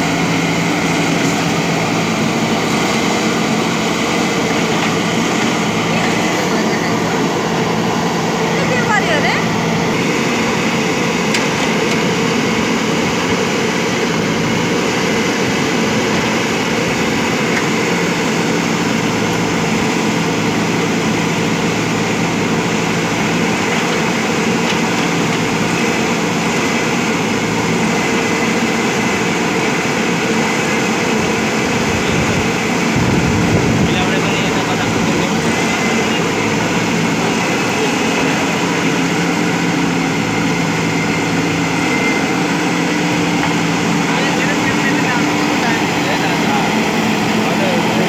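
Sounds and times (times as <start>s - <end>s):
diesel engine running under load: 0.0s - 48.0s.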